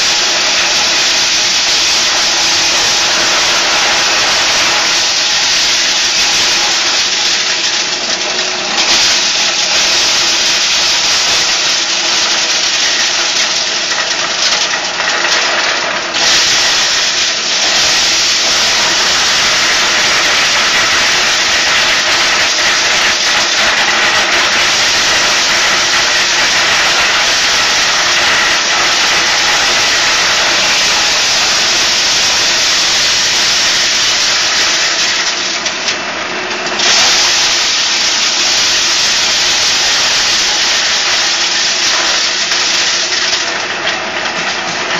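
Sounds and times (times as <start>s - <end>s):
corn sheller running: 0.0s - 44.9s.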